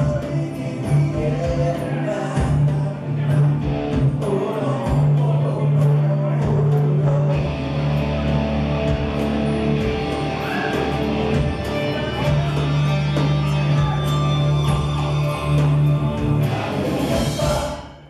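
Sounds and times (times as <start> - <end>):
bass guitar notes: 0.0 - 18.0
drums on cymbals: 0.0 - 18.0
electric guitar: 0.0 - 18.0
keyboards: 0.0 - 18.0.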